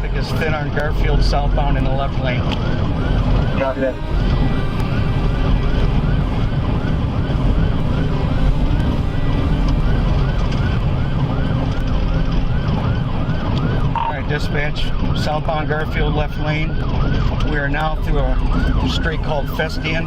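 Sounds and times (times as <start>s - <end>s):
car engine and road rumble: 0.0s - 20.0s
police siren yelping: 0.0s - 20.0s.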